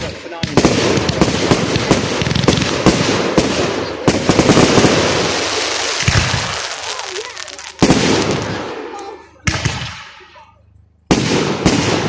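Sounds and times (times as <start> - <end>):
fireworks bangs and crackling: 0.0 - 10.5, 11.1 - 12.0.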